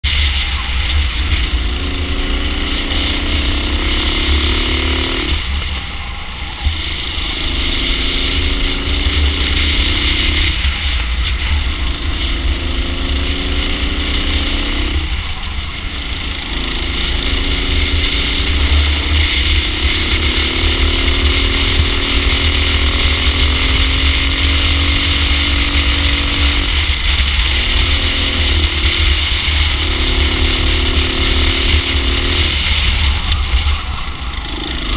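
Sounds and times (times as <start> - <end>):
racing kart engine revving: 0.0 - 34.9.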